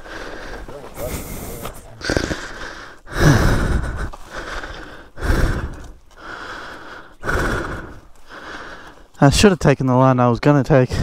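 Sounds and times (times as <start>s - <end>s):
person panting heavily: 0.0s - 9.2s.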